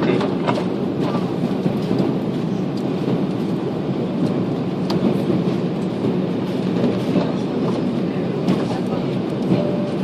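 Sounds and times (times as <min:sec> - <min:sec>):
airplane cabin engine noise: 0:00.0 - 0:10.0.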